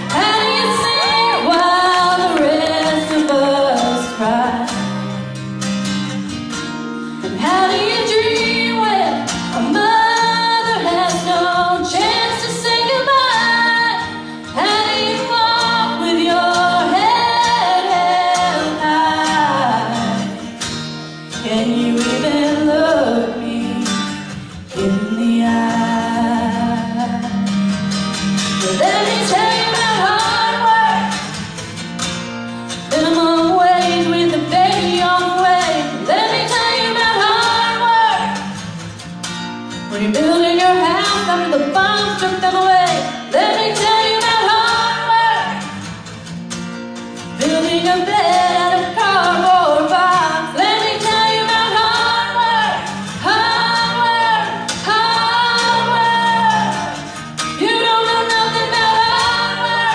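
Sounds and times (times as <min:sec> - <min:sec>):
woman singing into a microphone: 0:00.0 - 0:05.0, 0:07.2 - 0:20.6, 0:21.3 - 0:27.6, 0:28.6 - 0:31.4, 0:32.8 - 0:38.7, 0:39.7 - 0:45.9, 0:47.2 - 0:59.9
instrumental accompaniment with guitar: 0:00.0 - 0:59.9.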